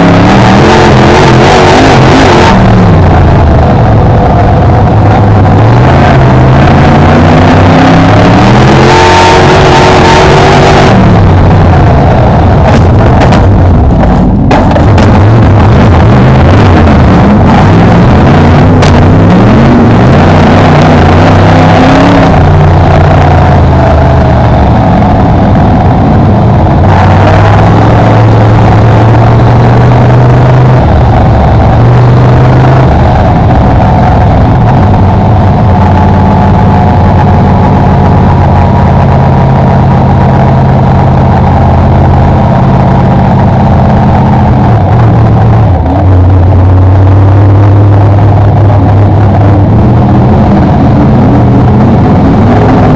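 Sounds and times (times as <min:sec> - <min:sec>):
loud racing car engine: 0:00.0 - 0:52.9
wind noise: 0:00.0 - 0:52.9.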